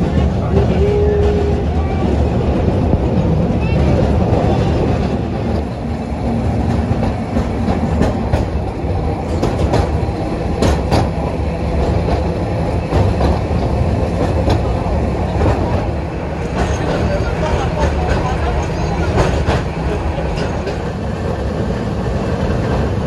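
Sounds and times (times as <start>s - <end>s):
wheels clicking over rail joints: 0.0s - 21.4s
train rumbling on rails: 0.0s - 23.0s.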